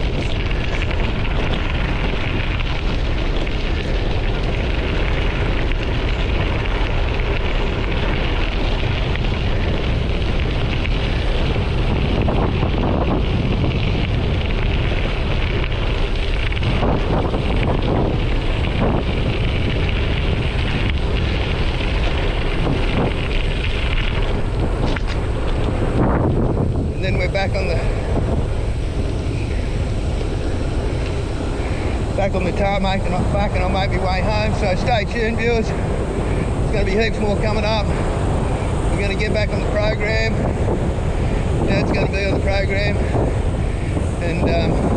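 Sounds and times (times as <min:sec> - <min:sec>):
bicycle tyres on gravel: 0:00.0 - 0:44.9
wind buffeting microphone: 0:00.0 - 0:44.9.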